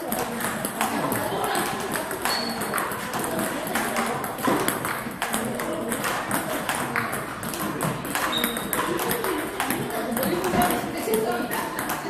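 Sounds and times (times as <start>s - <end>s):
table tennis ball clicking: 0.0s - 12.0s.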